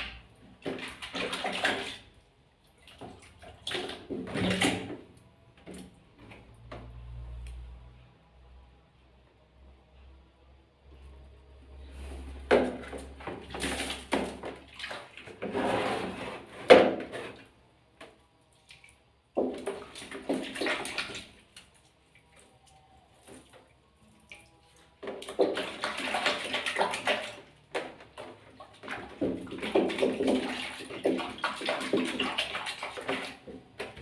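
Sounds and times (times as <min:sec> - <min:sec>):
water splashing and sloshing: 0:00.0 - 0:07.3, 0:11.7 - 0:34.0.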